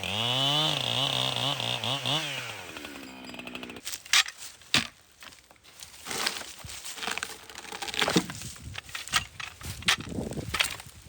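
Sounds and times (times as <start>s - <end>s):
dry wood crunching: 1.8s - 11.0s.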